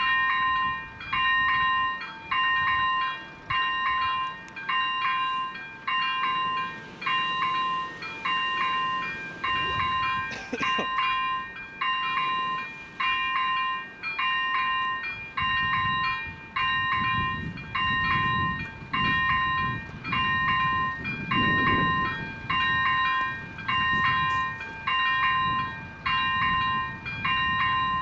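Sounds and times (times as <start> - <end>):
level crossing warning bells: 0.0 - 28.0.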